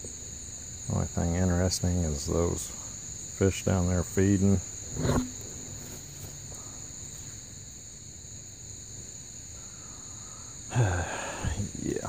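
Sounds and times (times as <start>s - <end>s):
high-pitched insect chorus trilling: 0.0s - 12.0s.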